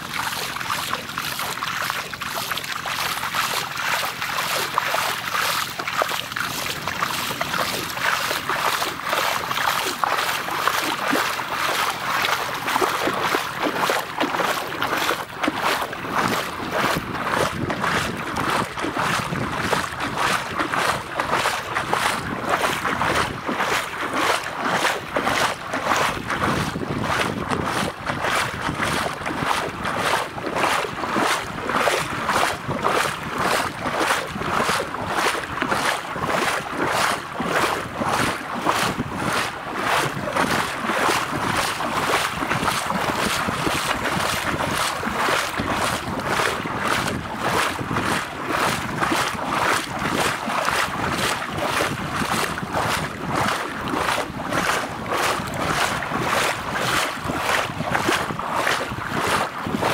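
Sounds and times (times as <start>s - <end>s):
water splashing rhythmically: 0.0s - 59.9s
wind noise on microphone: 3.1s - 59.9s.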